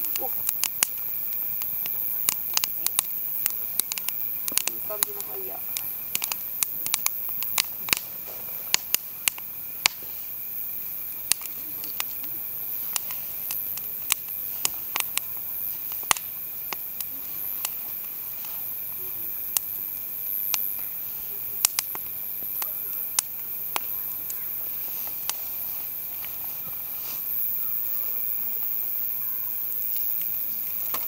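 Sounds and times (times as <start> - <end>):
logs crackling and popping: 0.0 - 31.0.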